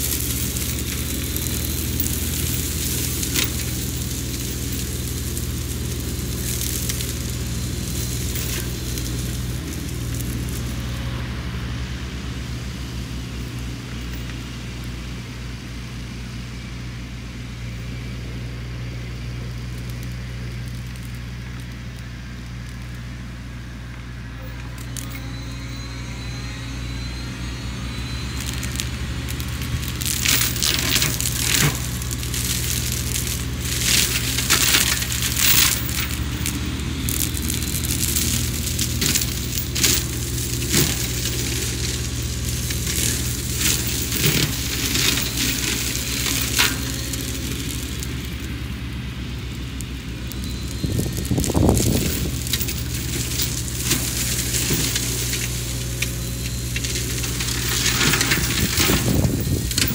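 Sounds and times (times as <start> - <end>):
wood crackling and snapping: 0.0 - 11.1, 18.6 - 59.9
excavator engine running: 0.0 - 59.9.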